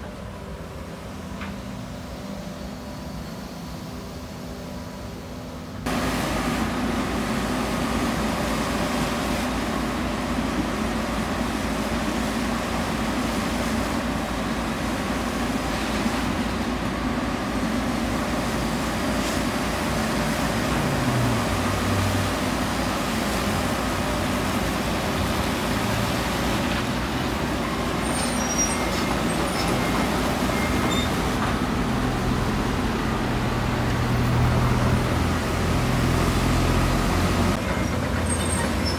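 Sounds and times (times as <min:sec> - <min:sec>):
diesel locomotive engine running: 0:00.0 - 0:38.9.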